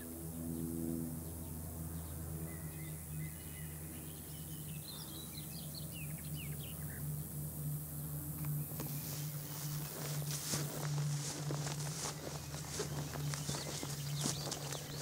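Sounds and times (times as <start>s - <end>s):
steady low hum: 0.0s - 15.0s
small birds chirping: 0.4s - 15.0s.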